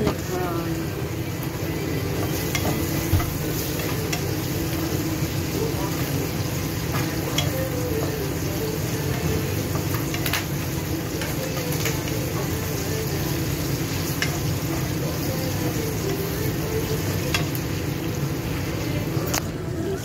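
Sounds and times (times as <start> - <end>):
prawns sizzling in a pan: 0.0 - 19.3.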